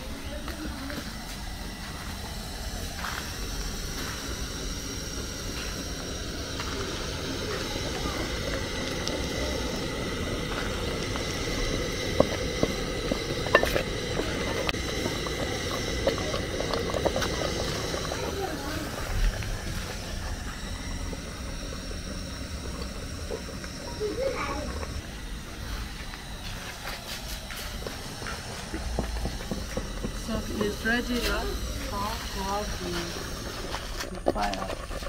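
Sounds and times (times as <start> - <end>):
gas burner hiss: 0.0 - 35.0
wooden stick stirring thick pap: 1.0 - 35.0.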